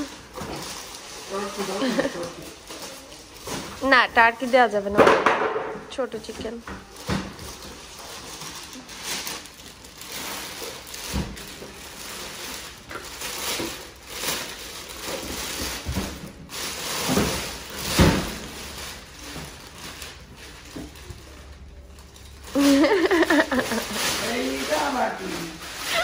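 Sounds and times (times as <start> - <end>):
packaging rustling and scraping: 0.0 - 5.0, 5.9 - 26.0.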